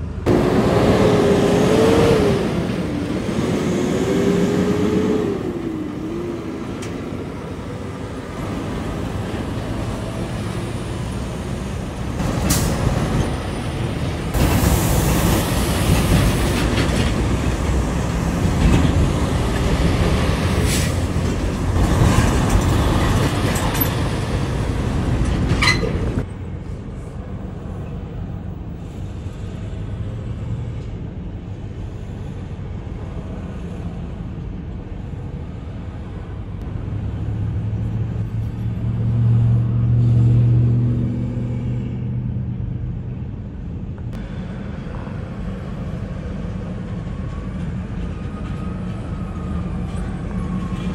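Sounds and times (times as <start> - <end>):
diesel engine passing: 0.0 - 31.4, 32.9 - 50.9
trucks passing close by: 0.0 - 50.9.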